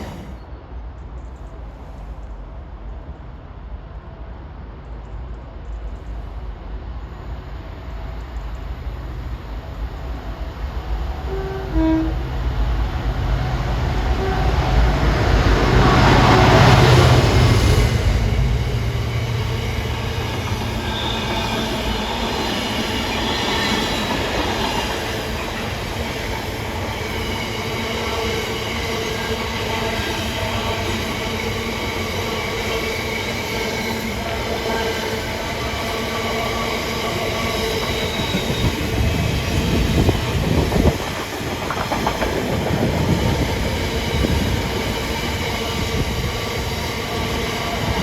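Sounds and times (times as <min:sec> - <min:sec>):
train passing on track: 0:00.0 - 0:48.0.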